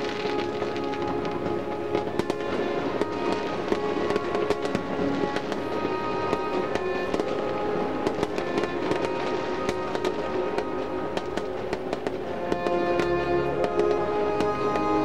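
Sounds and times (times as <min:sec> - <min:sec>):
fireworks crackling and popping: 0:00.0 - 0:15.0
music playing: 0:00.0 - 0:15.0.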